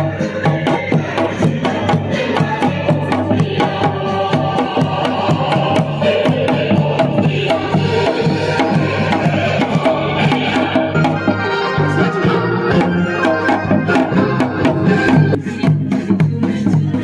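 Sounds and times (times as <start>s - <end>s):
dance music with drum beat: 0.0s - 17.0s.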